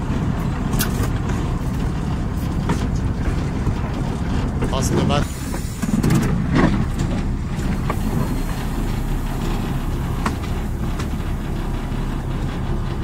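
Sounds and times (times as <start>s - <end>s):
locomotive engine drone: 0.0s - 13.0s
rail running noise: 0.0s - 13.0s.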